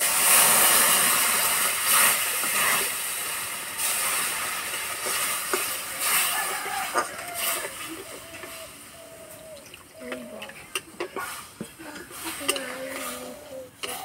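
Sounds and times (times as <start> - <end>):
milk sizzling in hot wok: 0.0 - 14.0.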